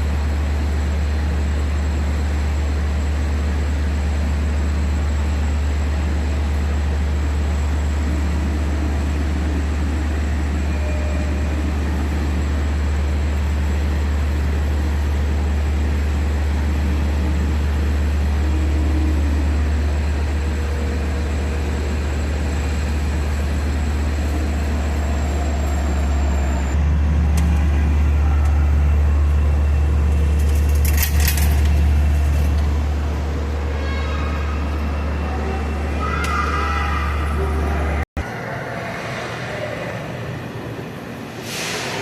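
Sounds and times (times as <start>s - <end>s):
train rumbling in motion: 0.0s - 42.0s.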